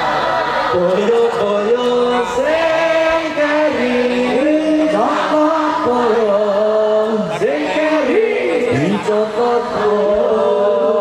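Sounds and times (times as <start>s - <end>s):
men singing devotional song: 0.7s - 11.0s.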